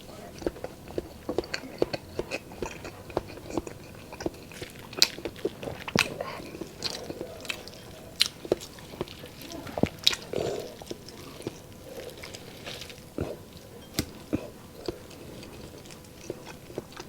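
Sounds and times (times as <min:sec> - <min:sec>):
chewing mouth sounds: 0:00.0 - 0:17.0.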